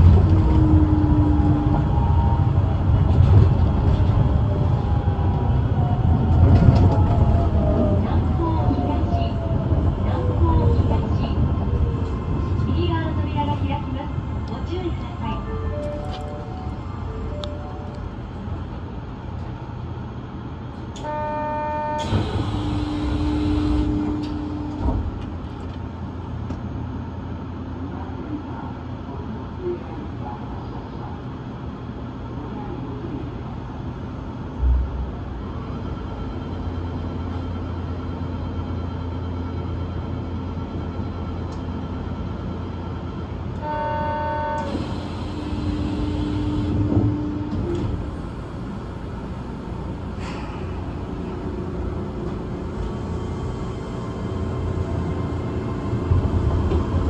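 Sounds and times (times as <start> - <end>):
train humming: 0.0 - 57.0.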